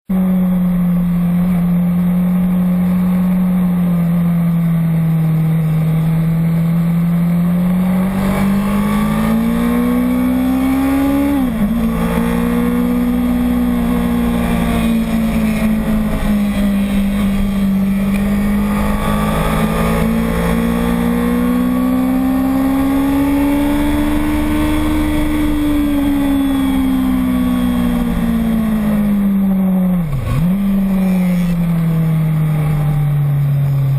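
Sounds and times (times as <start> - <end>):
racing motorcycle engine: 0.1 - 33.9.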